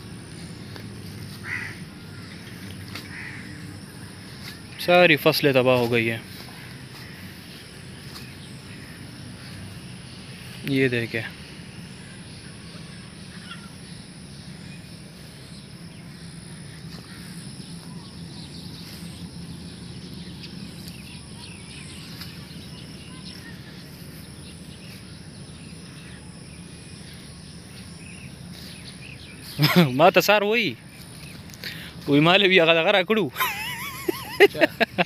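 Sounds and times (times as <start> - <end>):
faint chirps: 0.0 - 34.9
high insect-like whine: 0.0 - 35.0.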